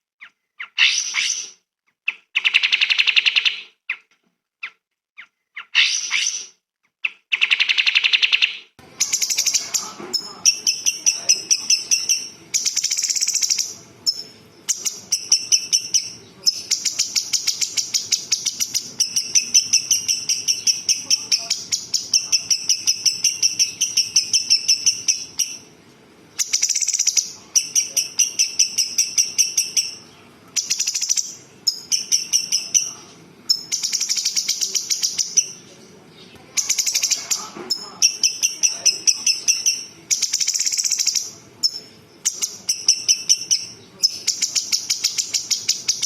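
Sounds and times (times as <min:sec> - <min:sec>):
songbird singing rapid trills: 0:07.3 - 0:25.7, 0:26.4 - 0:46.0.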